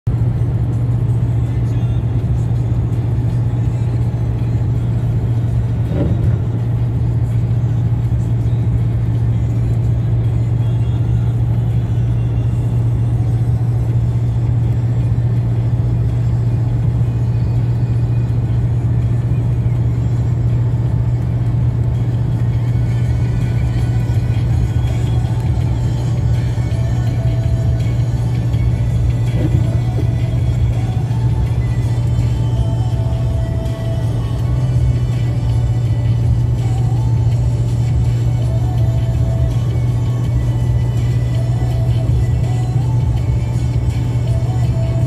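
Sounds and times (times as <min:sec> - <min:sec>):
car engine drone: 0:00.0 - 0:45.0
tyres on wet road: 0:00.1 - 0:45.0.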